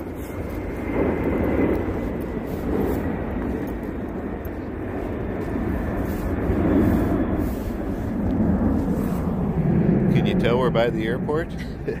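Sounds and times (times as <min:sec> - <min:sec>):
airplane engine rumble: 0:00.0 - 0:12.0.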